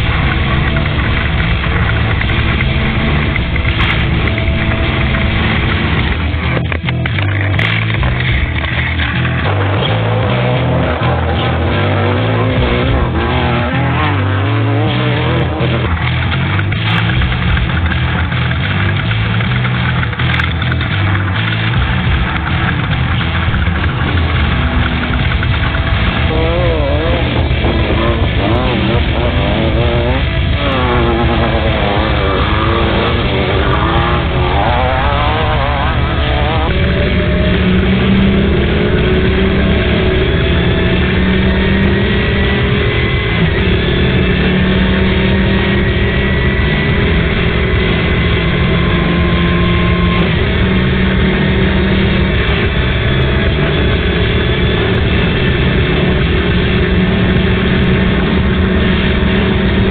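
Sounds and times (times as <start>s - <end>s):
race vehicle engine running hard: 0.0s - 59.9s
road and wind noise: 0.0s - 59.9s.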